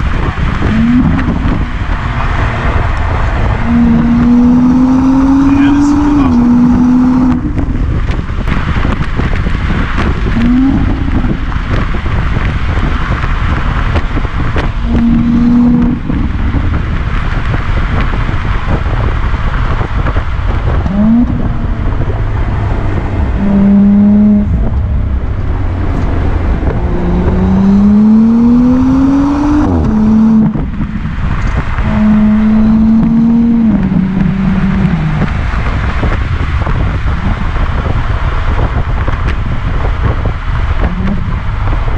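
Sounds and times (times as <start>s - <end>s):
car engine accelerating: 0.0s - 41.9s
road noise: 0.0s - 41.9s
wind noise: 0.0s - 41.9s.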